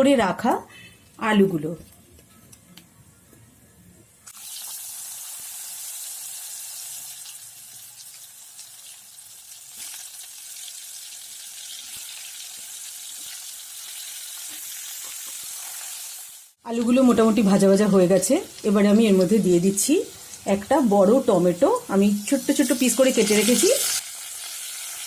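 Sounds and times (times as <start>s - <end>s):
potatoes sizzling in hot oil: 4.3s - 25.0s.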